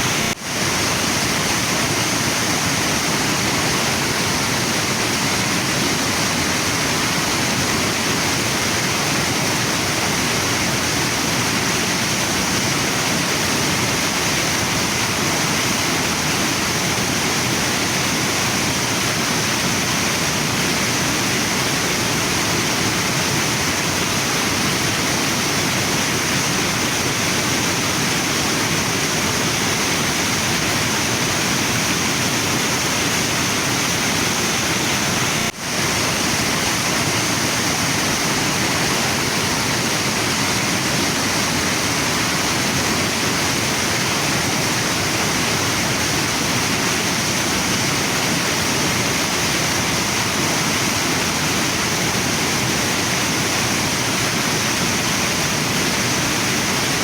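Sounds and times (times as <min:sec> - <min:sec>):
waterfall and river rushing: 0:00.0 - 0:57.0.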